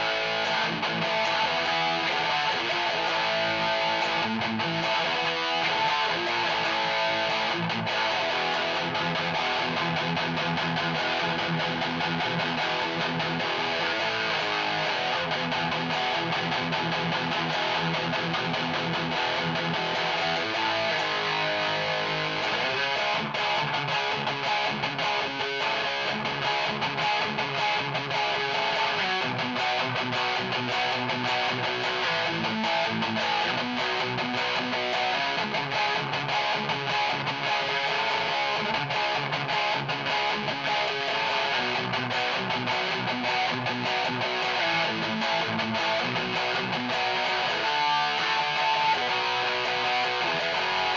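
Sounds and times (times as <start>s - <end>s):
distorted electric guitar riffs: 0.0s - 50.9s.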